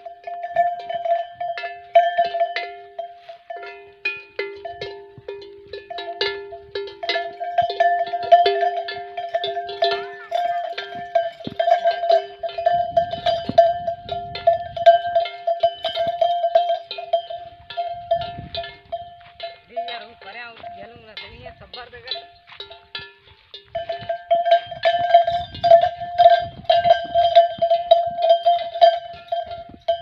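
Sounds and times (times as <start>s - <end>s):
metal bell clanking: 0.0s - 30.0s.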